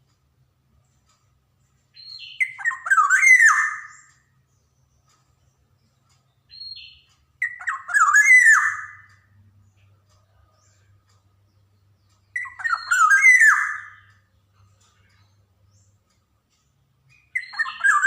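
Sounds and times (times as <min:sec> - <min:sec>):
bird singing fluty notes: 0:01.7 - 0:18.0.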